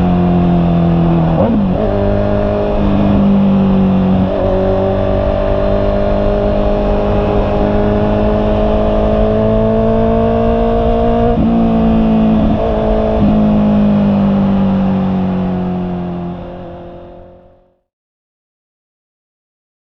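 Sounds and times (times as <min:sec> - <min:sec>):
motorcycle engine running: 0:00.0 - 0:17.7.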